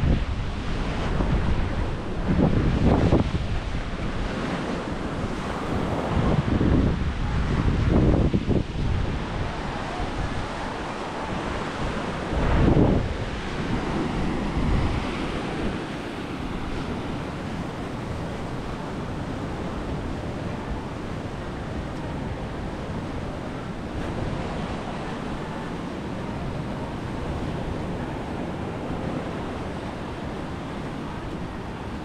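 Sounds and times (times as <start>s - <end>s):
surf washing onto beach: 0.0s - 32.0s
wind rumbling on microphone: 0.0s - 32.0s.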